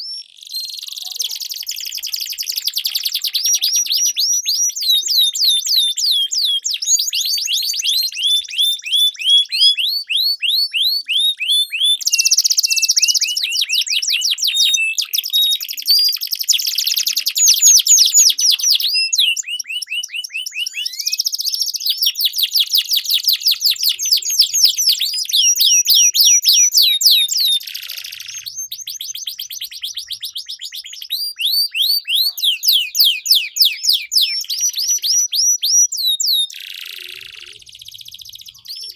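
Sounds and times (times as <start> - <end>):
canaries singing: 0.0 - 38.9.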